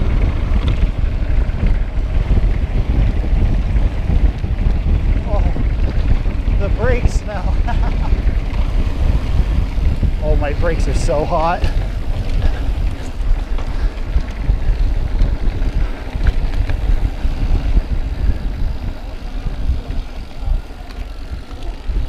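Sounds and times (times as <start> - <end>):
bike tyres rumbling on rock: 0.0 - 22.0
wind buffeting microphone: 0.0 - 22.0.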